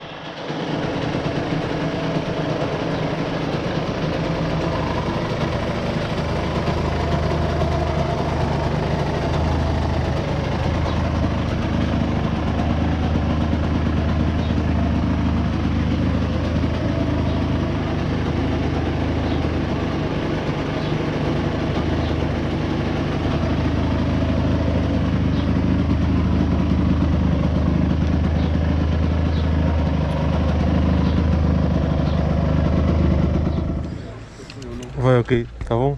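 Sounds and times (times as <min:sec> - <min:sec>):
two-stroke motorcycle engine running: 0:00.0 - 0:35.7.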